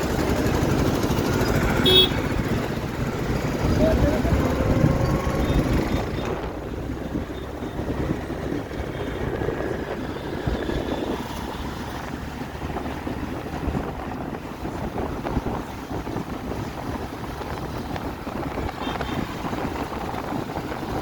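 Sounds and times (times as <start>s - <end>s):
engine and road rumble: 0.0s - 21.0s
wind buffeting microphone: 0.0s - 21.0s.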